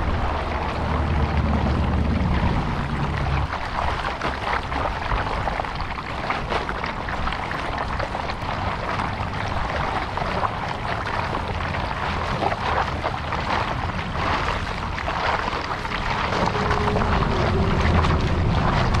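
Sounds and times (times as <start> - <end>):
low wind rumble on microphone: 0.0 - 19.0
water splashing and rushing: 0.0 - 19.0.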